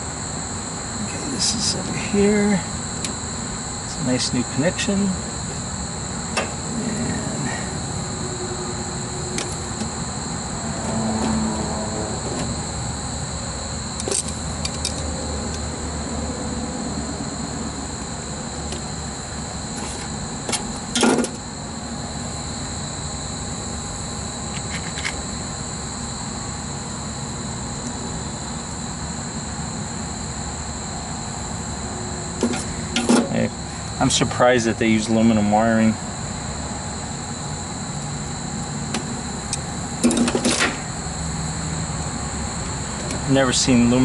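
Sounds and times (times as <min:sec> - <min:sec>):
background hum: 0:00.0 - 0:44.0
high-pitched whine: 0:00.0 - 0:44.0.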